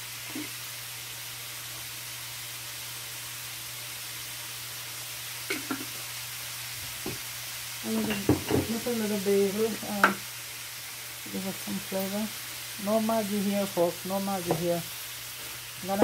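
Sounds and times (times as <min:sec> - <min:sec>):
vegetables sizzling in skillet: 0:00.0 - 0:16.0.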